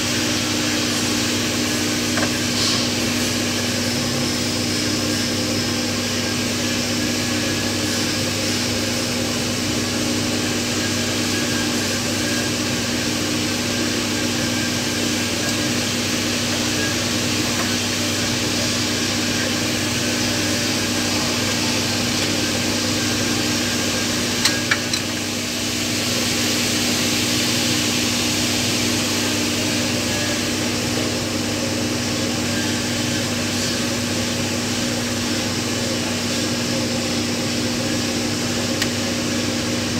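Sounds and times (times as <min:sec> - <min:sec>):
machinery hum with hiss: 0:00.0 - 0:39.9.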